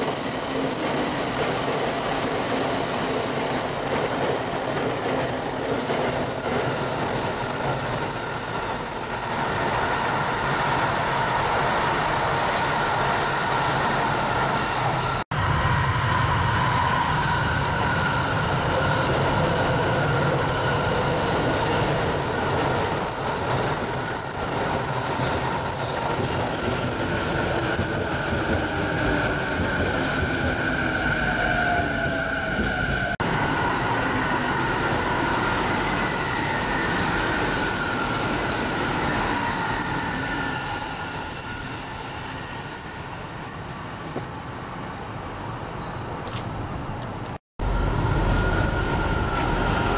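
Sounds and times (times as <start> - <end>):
train running noise: 0.0 - 49.9
wheels squealing on rails: 0.0 - 49.9.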